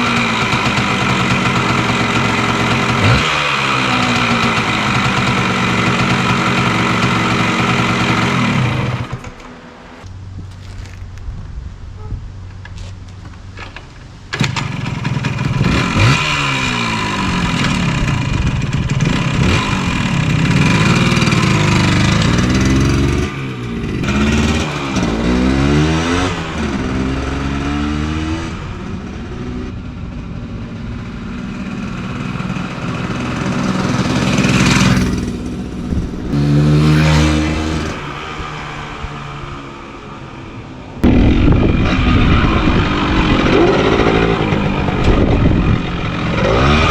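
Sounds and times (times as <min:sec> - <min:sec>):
small two-stroke engine revving: 0:00.0 - 0:09.4, 0:14.3 - 0:29.8, 0:31.1 - 0:46.9.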